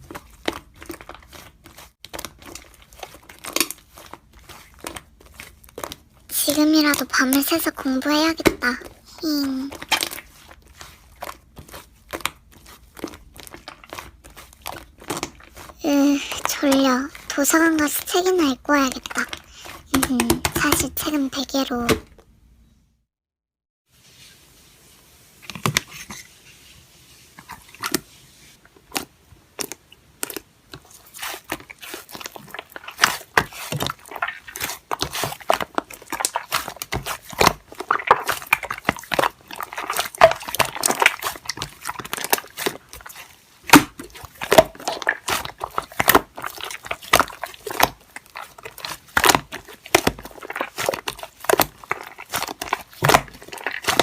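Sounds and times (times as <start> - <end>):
slime clicking and crackling: 0.0 - 22.0, 28.8 - 54.0.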